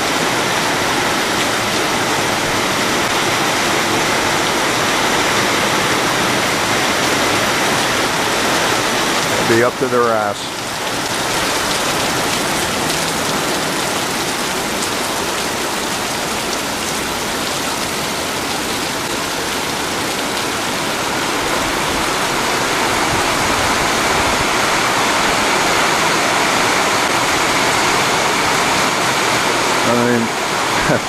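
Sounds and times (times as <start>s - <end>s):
torrential rain pouring: 0.0s - 31.0s.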